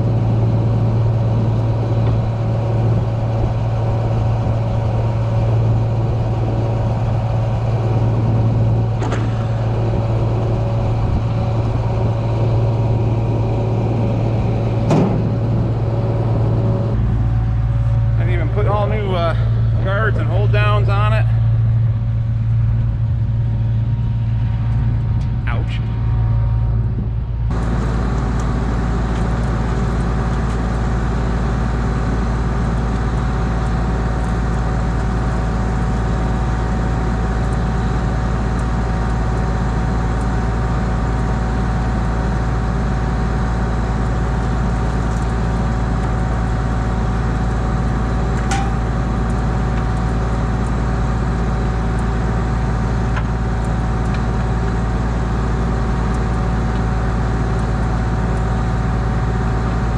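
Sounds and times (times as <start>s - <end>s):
large engine droning: 0.0s - 59.9s.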